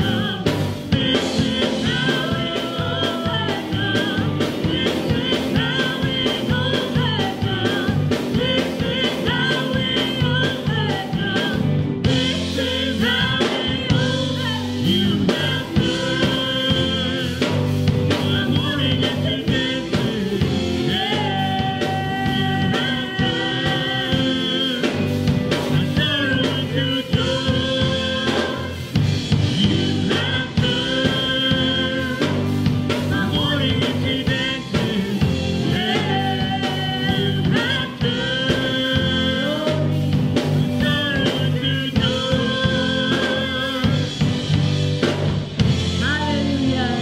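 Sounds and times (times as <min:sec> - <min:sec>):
bass guitar: 0:00.0 - 0:47.0
drum kit: 0:00.0 - 0:47.0
electric guitar: 0:00.0 - 0:47.0
keyboard: 0:00.0 - 0:47.0
vocalists singing: 0:00.0 - 0:47.0.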